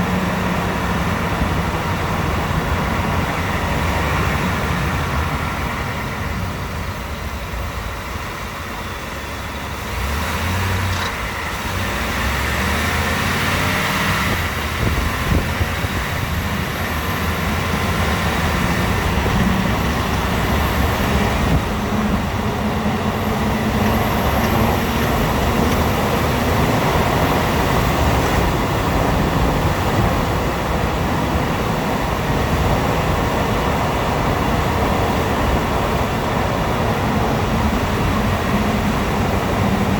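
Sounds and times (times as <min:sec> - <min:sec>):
road noise: 0:00.0 - 0:39.9
truck engine running: 0:00.0 - 0:39.9.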